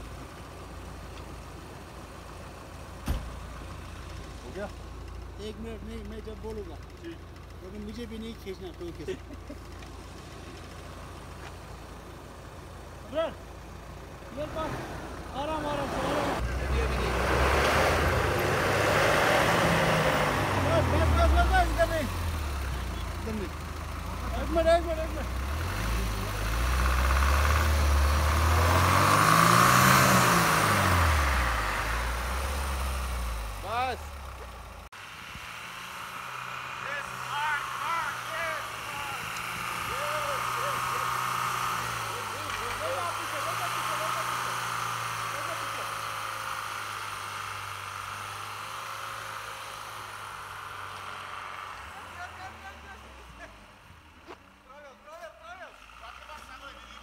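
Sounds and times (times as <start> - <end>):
diesel engine revving: 0.0 - 57.0
tyres churning snow: 0.0 - 57.0.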